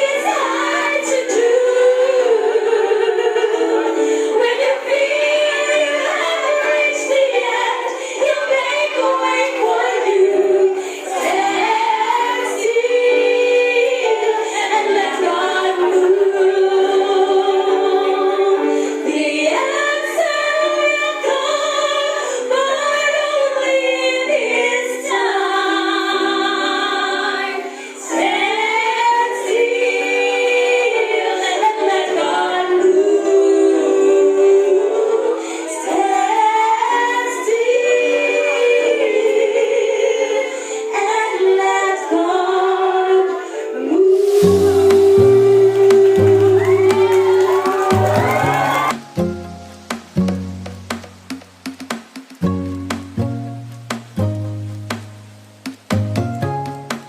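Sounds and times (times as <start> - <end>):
choir singing: 0.0 - 49.0.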